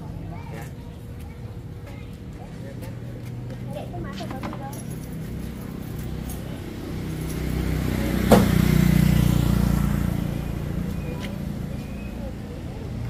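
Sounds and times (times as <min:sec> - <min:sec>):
vehicle engine passing: 0:02.4 - 0:13.0.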